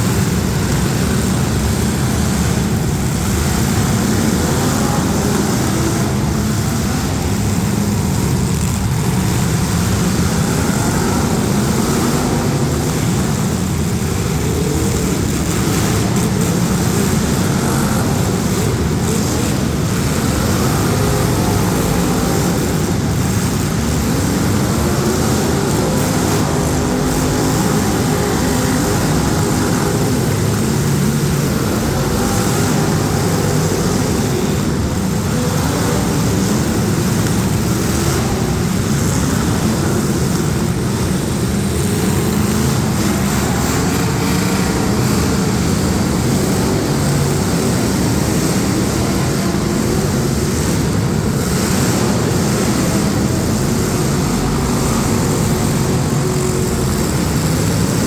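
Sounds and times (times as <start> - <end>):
car engines droning: 0.0 - 58.0.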